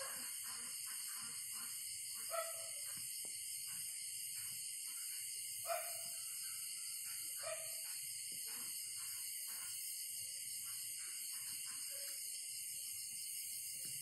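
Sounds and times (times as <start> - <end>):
high insect chorus: 0.0 - 14.0.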